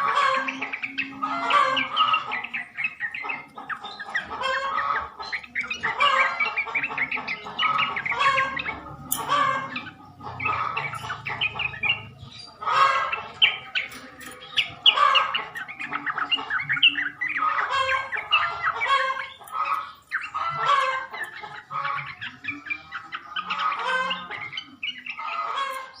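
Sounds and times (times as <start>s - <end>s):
bulbul singing: 0.0s - 26.0s.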